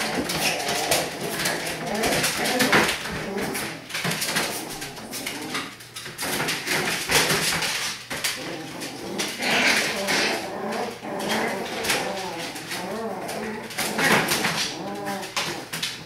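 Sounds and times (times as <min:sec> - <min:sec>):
puppies whimpering and growling: 0:00.0 - 0:07.3, 0:08.2 - 0:16.0.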